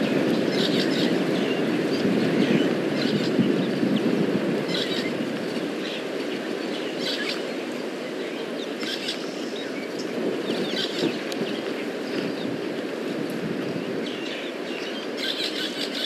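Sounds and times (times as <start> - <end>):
small birds chirping: 0.0 - 12.9, 13.6 - 16.0.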